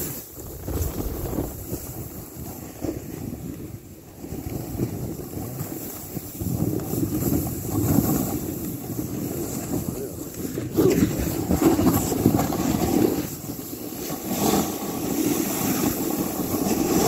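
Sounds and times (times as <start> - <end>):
snowboard hissing through snow: 0.0 - 3.2, 4.6 - 17.0
wind buffeting microphone: 0.0 - 17.0.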